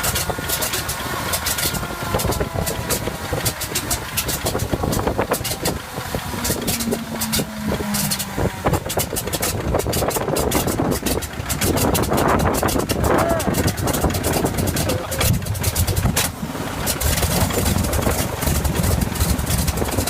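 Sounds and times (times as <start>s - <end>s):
piston aircraft engine running unevenly: 0.0s - 20.0s.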